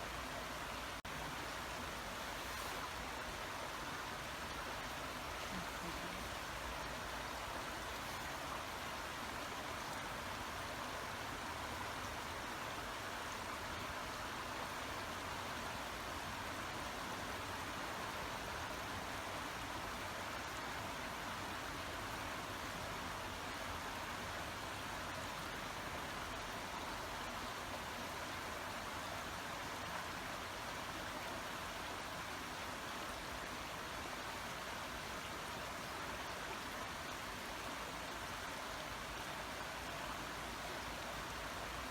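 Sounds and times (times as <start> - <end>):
brook water running: 0.0 - 41.9.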